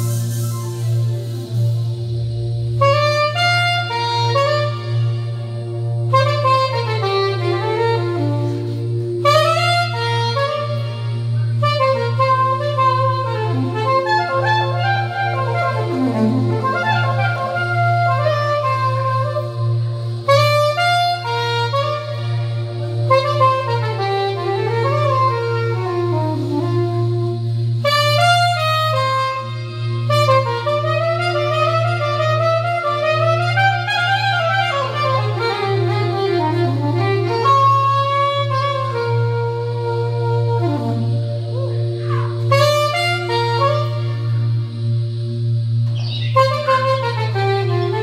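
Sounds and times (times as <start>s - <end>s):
soprano saxophone solo melody: 0.0s - 48.0s
steady low tone: 0.0s - 48.0s.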